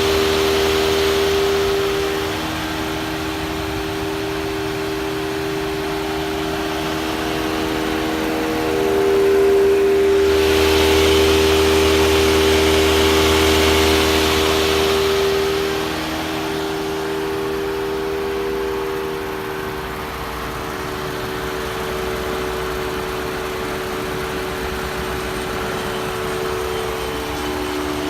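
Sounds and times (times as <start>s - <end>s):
car mechanical whirring: 0.0s - 28.0s.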